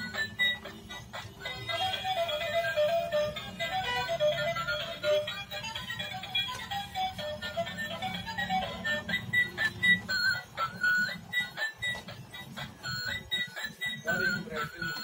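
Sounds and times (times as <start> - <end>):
electronic toy tune: 0.0 - 15.0
toy motor humming: 0.0 - 15.0.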